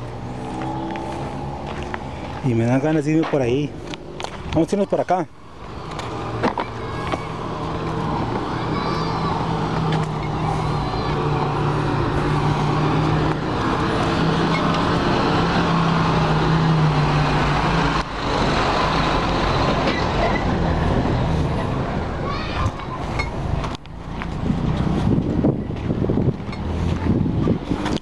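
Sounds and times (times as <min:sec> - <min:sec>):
bus engine passing by: 0:00.0 - 0:28.0.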